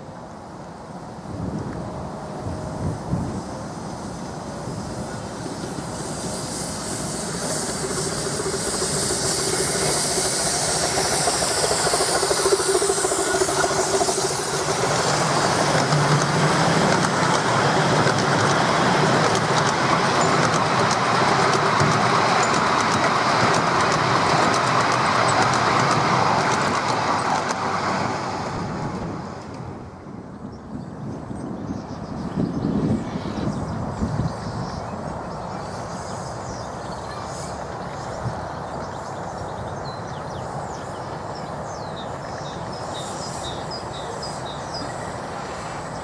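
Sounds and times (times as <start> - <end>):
locomotive hiss: 0.0 - 30.6, 31.2 - 46.0
carriages clicking along rails: 1.0 - 46.0.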